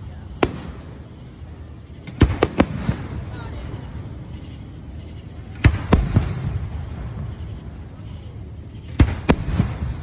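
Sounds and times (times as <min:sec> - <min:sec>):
fireworks booming: 0:00.0 - 0:10.0.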